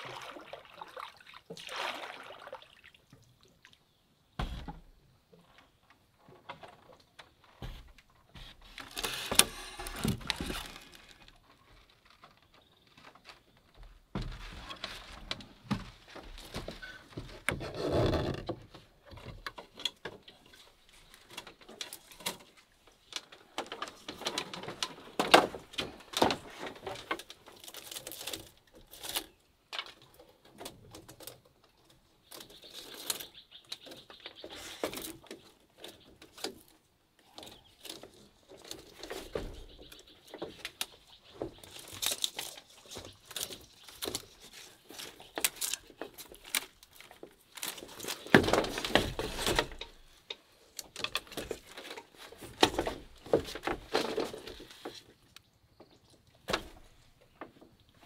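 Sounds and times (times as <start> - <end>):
bamboo knocks and clatter: 4.4 - 58.0.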